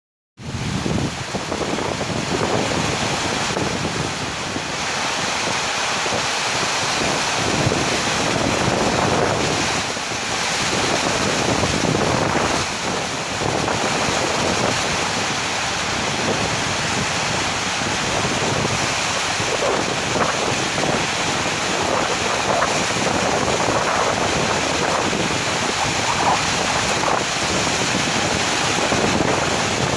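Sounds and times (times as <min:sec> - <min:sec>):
heavy rain: 0:00.4 - 0:29.9
wind buffeting microphone: 0:00.4 - 0:29.9.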